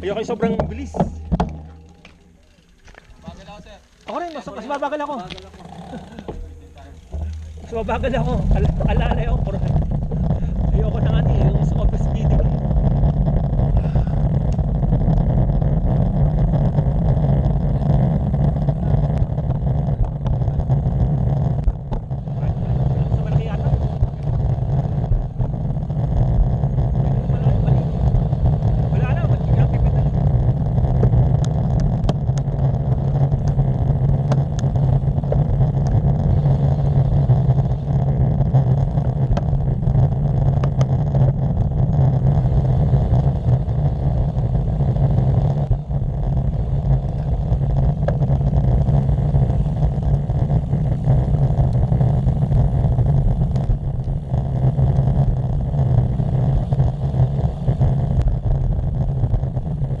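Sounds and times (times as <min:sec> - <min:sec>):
bicycle road noise: 0:00.0 - 1:00.0
wind rumble: 0:00.0 - 1:00.0.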